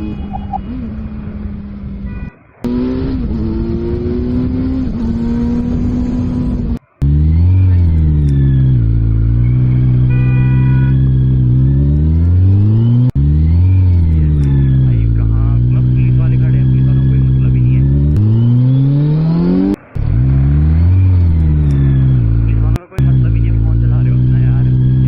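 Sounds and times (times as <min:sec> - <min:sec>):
motorcycle engine: 0:00.0 - 0:25.0.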